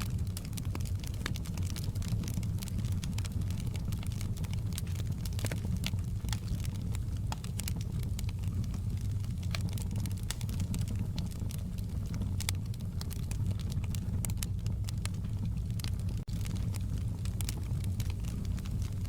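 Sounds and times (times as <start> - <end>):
sharp pops and ticks: 0.0 - 19.0
wood fire crackling: 0.0 - 19.0.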